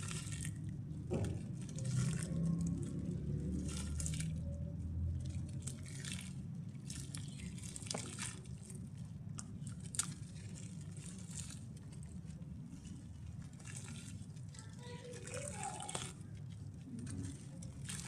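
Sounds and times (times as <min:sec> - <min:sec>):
wet mud crumbling in water: 0:00.0 - 0:18.0.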